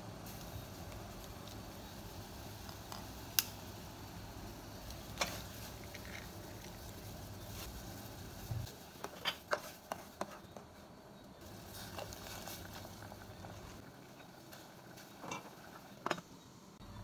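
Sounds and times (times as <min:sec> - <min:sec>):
broth boiling in a pot: 0:00.0 - 0:17.0.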